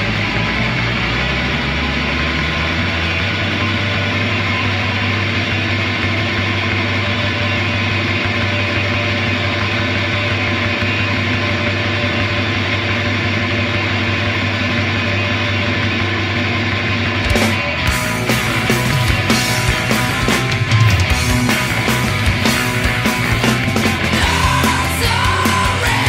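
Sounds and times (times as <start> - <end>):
distorted electric guitar drone: 0.0 - 26.0.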